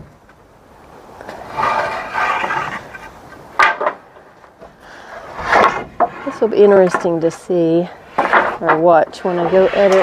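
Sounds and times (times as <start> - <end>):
wood scraping against wood: 1.2 - 10.0.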